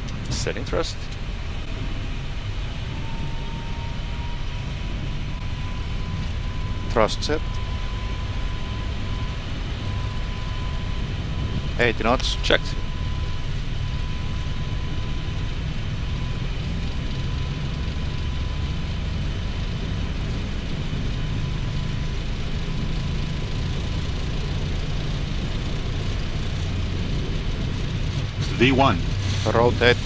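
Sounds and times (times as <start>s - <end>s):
faint steady tone: 0.0s - 30.0s
jet engines and wheels rumbling: 0.0s - 30.0s.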